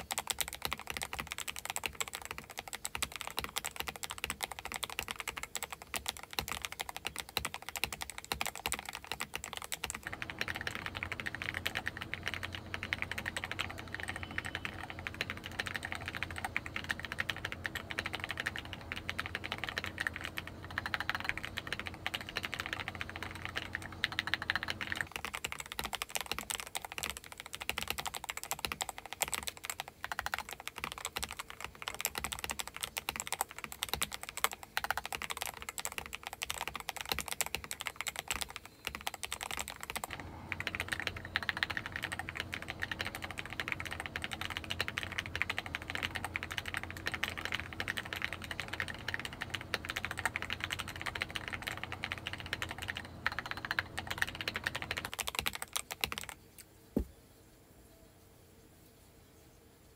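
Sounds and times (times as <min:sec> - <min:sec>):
mechanical keyboard typing: 0:00.0 - 0:56.4.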